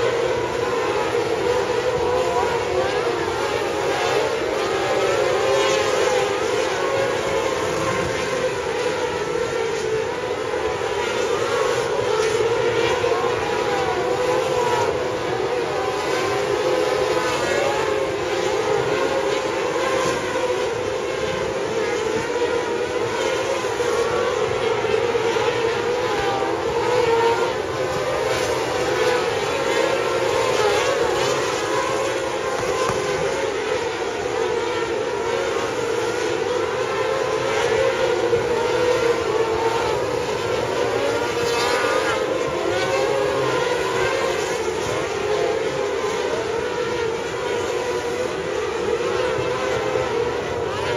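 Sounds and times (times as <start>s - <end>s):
sprint car engines wailing: 0.0s - 50.9s.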